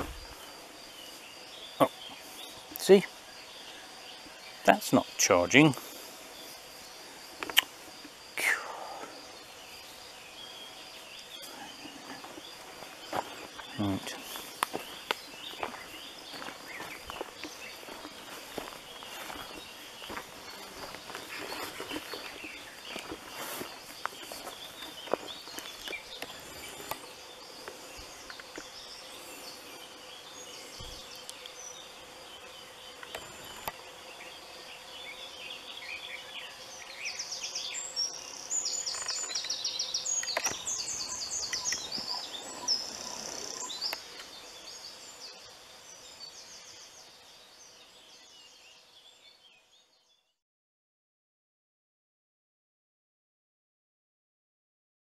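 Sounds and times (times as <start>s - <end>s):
birds chirping and trilling: 0.0s - 50.3s
loud trilling birdsong: 0.0s - 50.3s.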